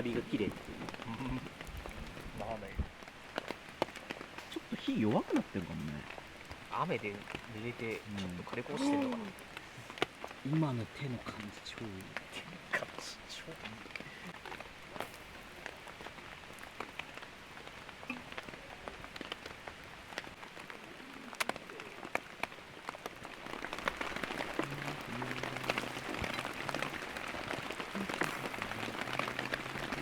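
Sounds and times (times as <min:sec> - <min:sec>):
heavy rain falling: 0:00.0 - 0:30.0
raindrops ticking: 0:00.0 - 0:30.0.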